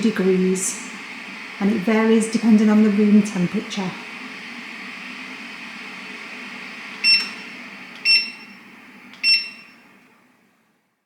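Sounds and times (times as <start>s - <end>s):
heater beeping: 0.0s - 10.6s
fan heater air hum: 0.0s - 11.0s.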